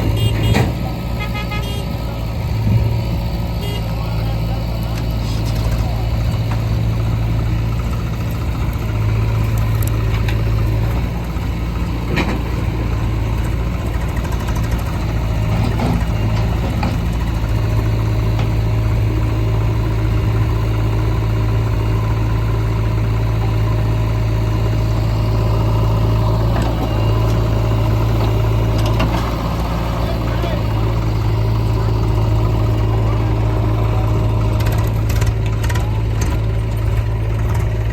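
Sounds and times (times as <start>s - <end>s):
backhoe diesel engine running: 0.0s - 37.9s.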